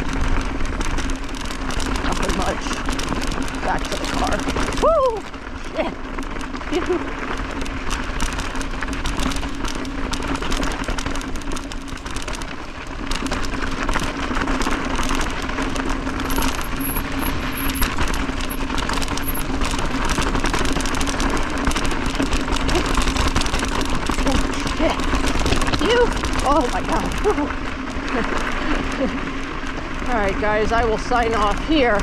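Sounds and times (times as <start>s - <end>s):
tyres crunching over stones: 0.0s - 31.6s
low hum: 0.0s - 31.9s
bike chain and frame rattling: 0.0s - 32.0s.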